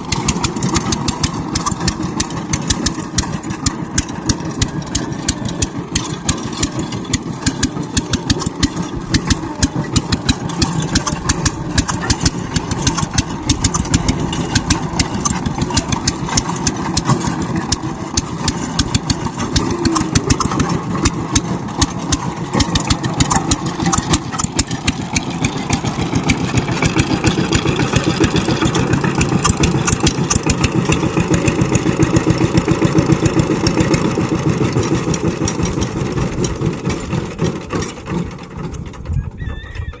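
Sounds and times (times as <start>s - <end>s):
power tiller engine running: 0.0s - 40.0s.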